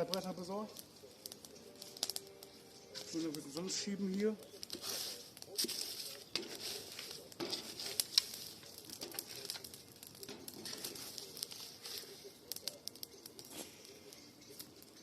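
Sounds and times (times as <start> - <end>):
campfire crackling and popping: 0.0 - 15.0
faint hiss: 0.0 - 15.0.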